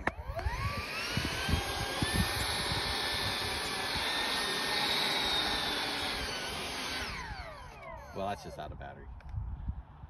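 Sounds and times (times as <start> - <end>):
electric fan high-pitched whine: 0.0 - 8.8.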